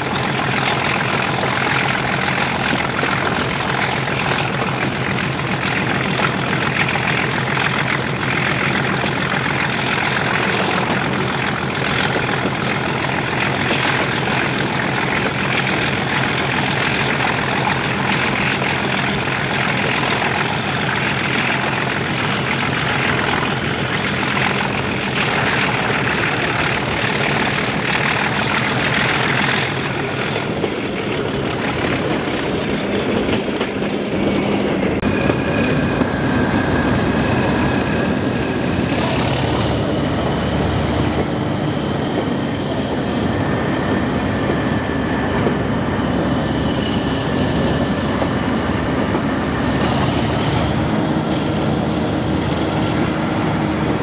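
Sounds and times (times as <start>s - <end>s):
diesel locomotive engine: 0.0s - 54.0s.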